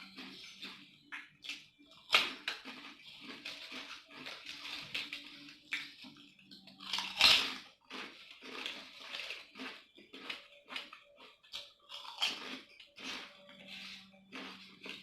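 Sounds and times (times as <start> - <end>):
chips crunching and chewing: 0.0 - 15.0.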